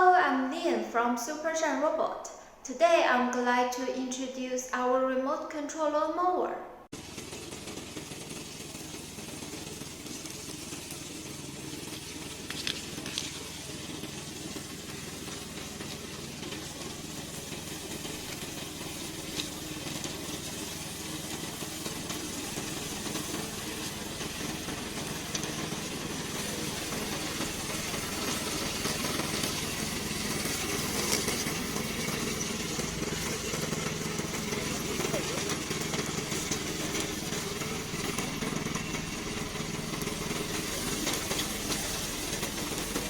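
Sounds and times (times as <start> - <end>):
lawn mower engine running: 6.9 - 43.0.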